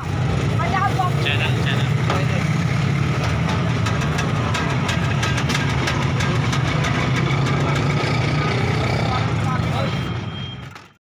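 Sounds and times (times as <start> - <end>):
engine idling: 0.0 - 9.6.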